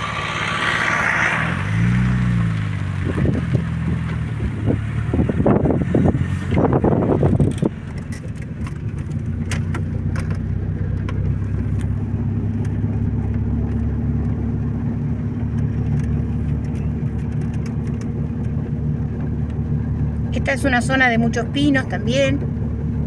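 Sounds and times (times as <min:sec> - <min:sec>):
car engine and road drone: 0:00.0 - 0:23.0.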